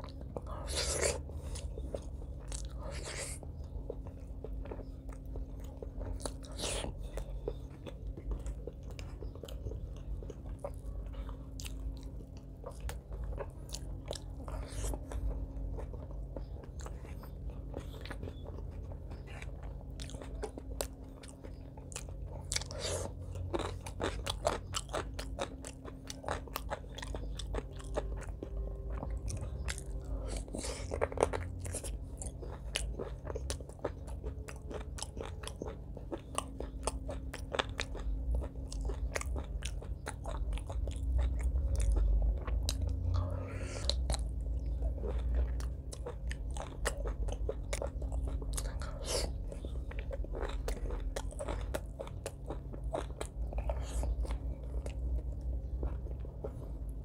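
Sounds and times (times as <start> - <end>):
man chewing and biting: 0.0 - 57.0.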